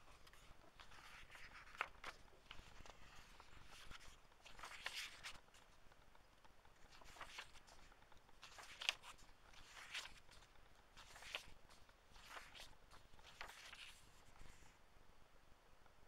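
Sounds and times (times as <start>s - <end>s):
book pages turning: 0.0s - 14.8s.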